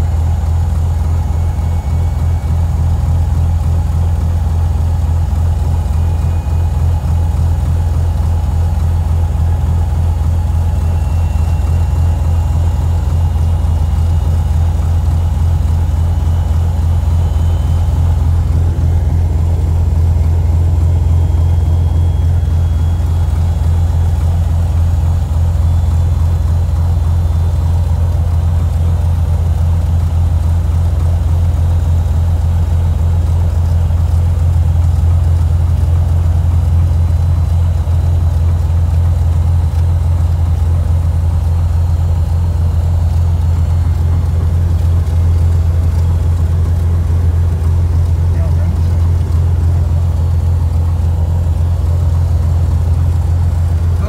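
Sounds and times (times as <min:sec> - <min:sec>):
aircraft piston engine droning: 0:00.0 - 0:54.0.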